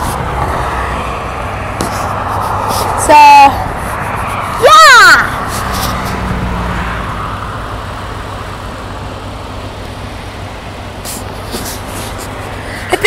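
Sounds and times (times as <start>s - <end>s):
passing vehicle engine drone: 0.0s - 13.0s
traffic rumble: 0.0s - 13.0s.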